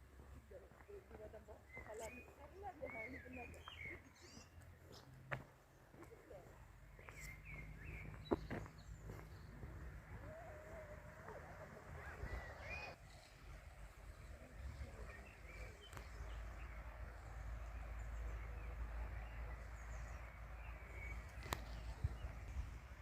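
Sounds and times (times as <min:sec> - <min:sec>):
birds chirping: 0:00.2 - 0:23.0.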